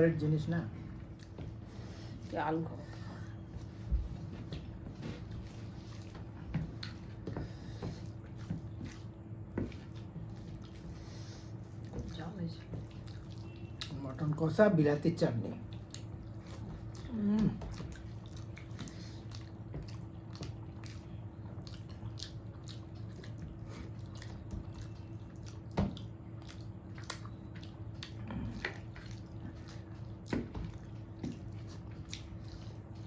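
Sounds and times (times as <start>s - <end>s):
steady low hum: 0.0s - 33.0s
wet chewing and mouth clicks: 1.0s - 1.7s, 3.6s - 14.6s, 15.5s - 33.0s.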